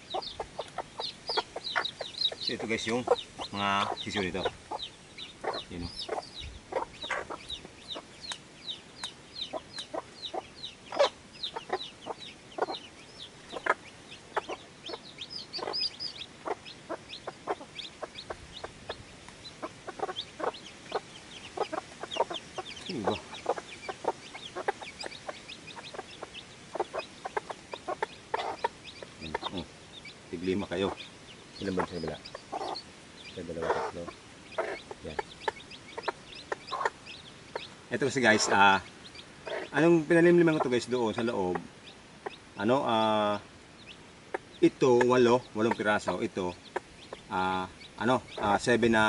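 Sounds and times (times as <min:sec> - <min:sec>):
chicks peeping: 0:00.0 - 0:49.0
hen clucking: 0:00.0 - 0:49.0.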